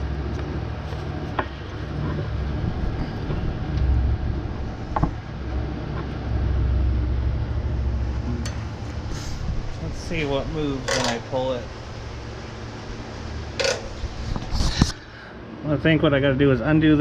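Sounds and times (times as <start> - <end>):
small engine rumble: 0.0 - 17.0.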